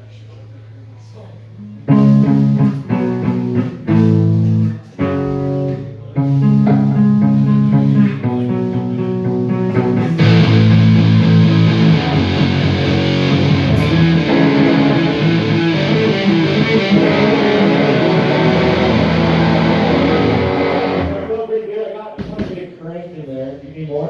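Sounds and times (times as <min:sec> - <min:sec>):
electric guitar through amplifier: 0:01.6 - 0:21.5.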